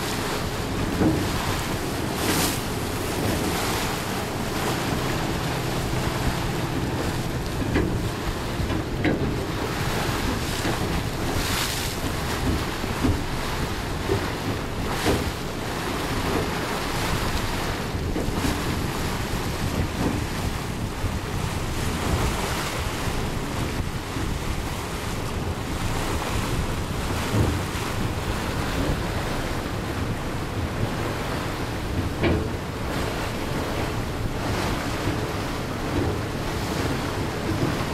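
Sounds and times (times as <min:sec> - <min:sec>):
water washing along hull: 0:00.0 - 0:37.9
wind buffeting microphone: 0:00.0 - 0:37.9.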